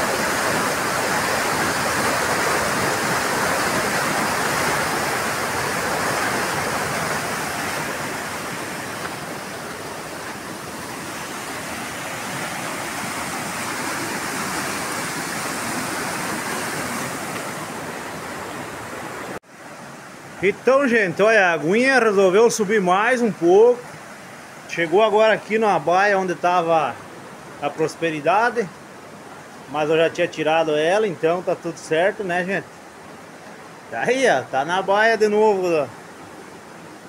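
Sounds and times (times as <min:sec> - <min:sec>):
floodwater rushing: 0:00.0 - 0:37.0.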